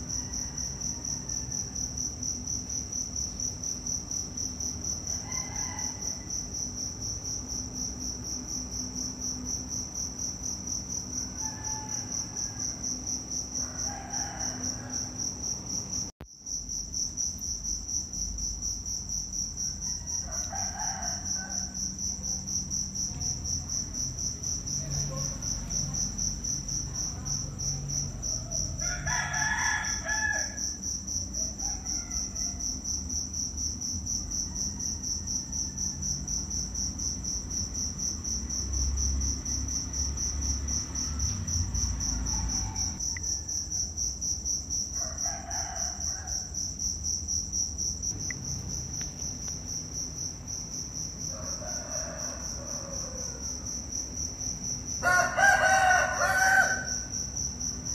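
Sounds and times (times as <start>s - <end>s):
high-pitched insect trill: 0.0s - 57.9s.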